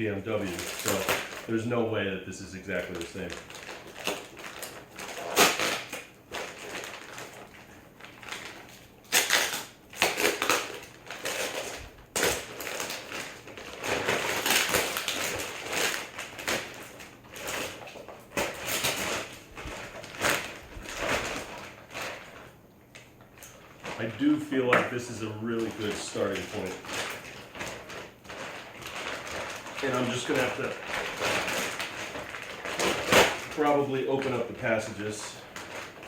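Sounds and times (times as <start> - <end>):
packaging crinkling: 0.0 - 36.0.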